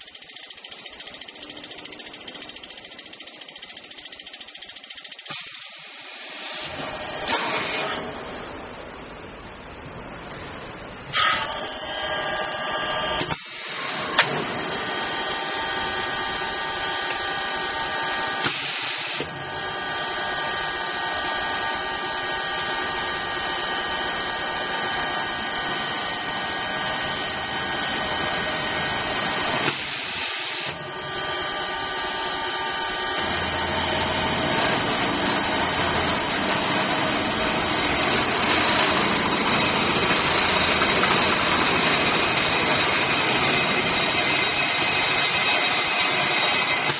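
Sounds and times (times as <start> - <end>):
machine whine: 0.0 - 46.9
noisy hiss: 5.2 - 46.9.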